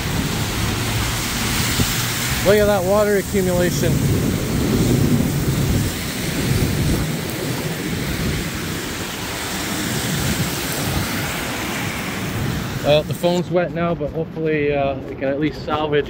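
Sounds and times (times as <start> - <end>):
heavy rain pouring: 0.0 - 13.7
low thunder rumble: 0.0 - 14.0.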